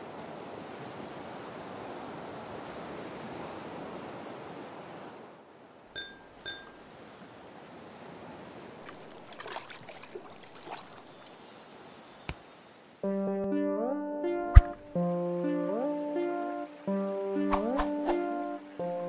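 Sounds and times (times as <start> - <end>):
ocean waves washing: 0.0 - 13.1, 14.2 - 19.0.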